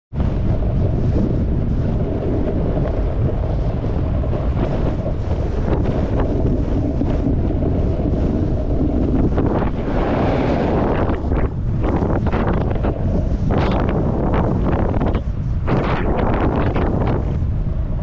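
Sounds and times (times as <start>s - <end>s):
wind buffeting microphone: 0.1s - 18.0s.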